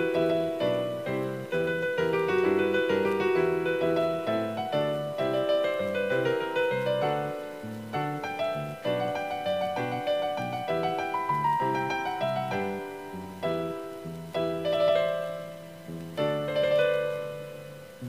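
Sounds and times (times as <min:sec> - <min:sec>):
piano-toned keyboard melody: 0:00.0 - 0:18.0.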